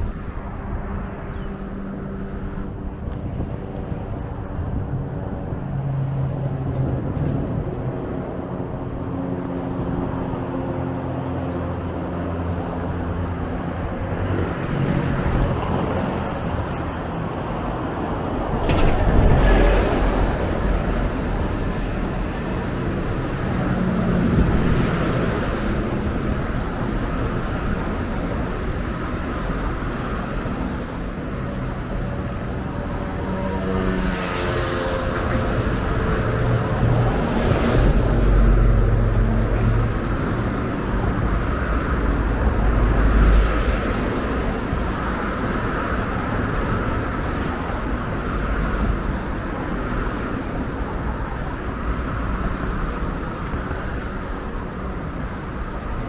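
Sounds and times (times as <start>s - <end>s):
loud vehicle passing: 0.0s - 55.9s
traffic hum and tyre hiss: 0.0s - 56.0s.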